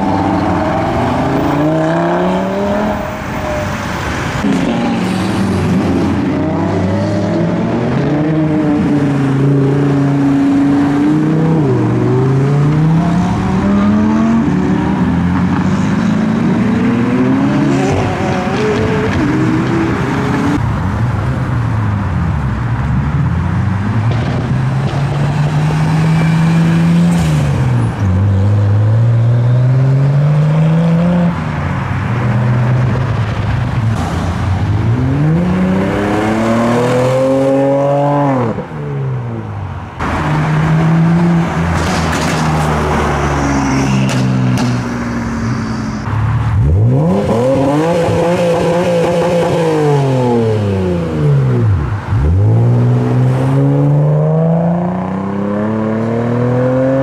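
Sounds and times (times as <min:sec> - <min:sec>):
cars accelerating: 0:00.0 - 0:21.3, 0:22.1 - 0:57.0.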